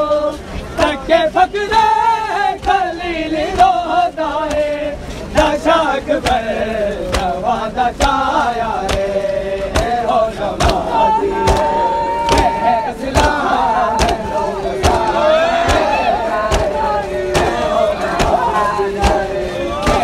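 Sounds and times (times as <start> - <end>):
crowd of men chanting: 0.0 - 20.0
sharp slaps keeping a beat: 1.7 - 20.0.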